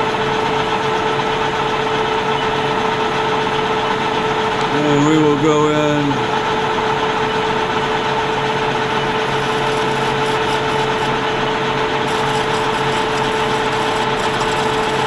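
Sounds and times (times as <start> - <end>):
metal lathe whining: 0.0 - 15.0.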